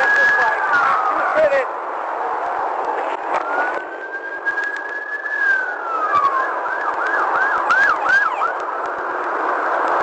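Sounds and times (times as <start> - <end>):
police siren wailing and yelping: 0.0 - 10.0
road and engine noise: 0.0 - 10.0.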